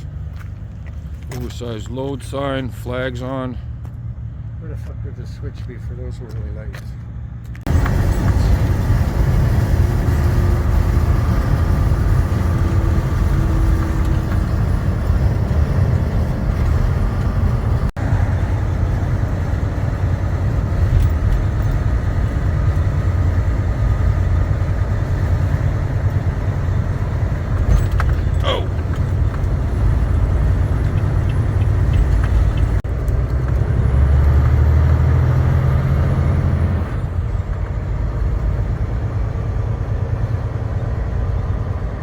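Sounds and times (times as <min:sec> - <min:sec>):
truck engine and road noise: 0:00.0 - 0:42.0.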